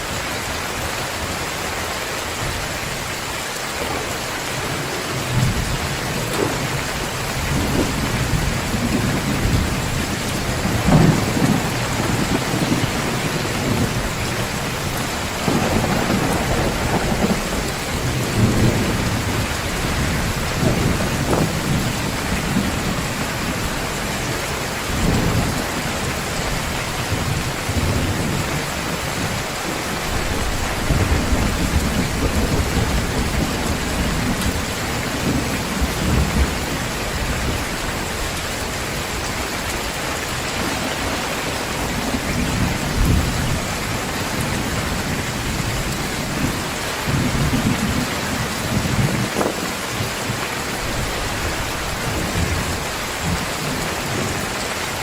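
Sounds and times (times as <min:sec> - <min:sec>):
heavy rain pouring: 0:00.0 - 0:55.0
thunder rumbling: 0:03.8 - 0:55.0.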